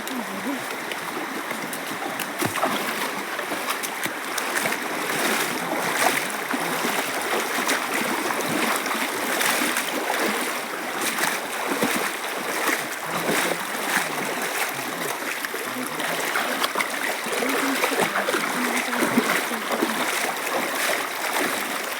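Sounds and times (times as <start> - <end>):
small water splashes: 0.0 - 21.9
stream running: 0.0 - 21.9.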